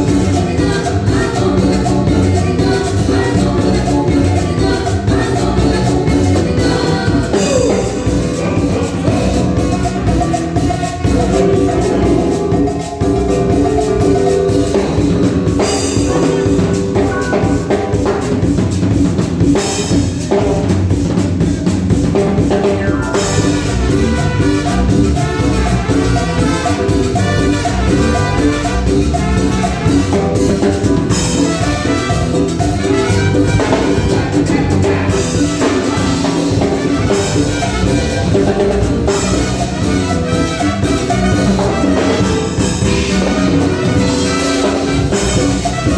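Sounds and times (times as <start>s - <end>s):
drum kit and percussion beat: 0.0s - 45.9s
live band playing dance music: 0.0s - 45.9s.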